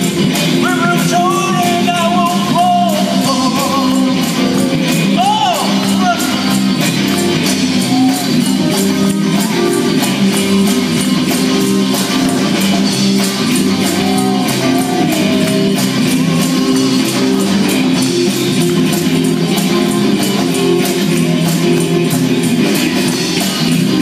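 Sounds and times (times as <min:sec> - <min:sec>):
electric guitars playing chords: 0:00.0 - 0:24.0
ticking drum beat: 0:00.0 - 0:24.0.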